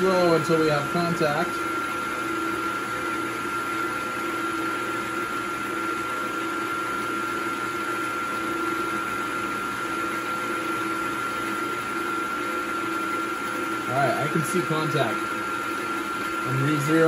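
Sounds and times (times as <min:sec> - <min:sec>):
milling machine motor whining: 0:00.0 - 0:17.0.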